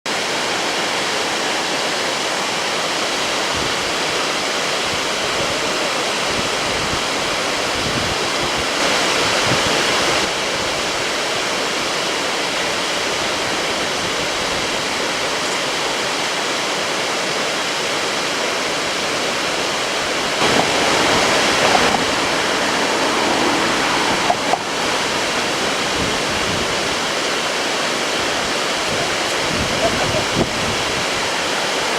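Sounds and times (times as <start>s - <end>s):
waterfall rushing: 0.1s - 31.9s.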